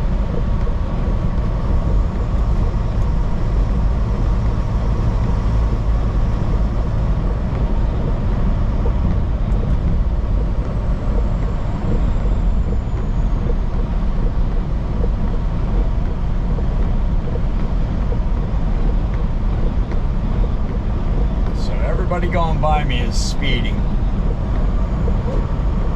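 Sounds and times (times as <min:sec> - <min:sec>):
road and wind noise: 0:00.0 - 0:25.9
truck engine hum: 0:00.0 - 0:25.9.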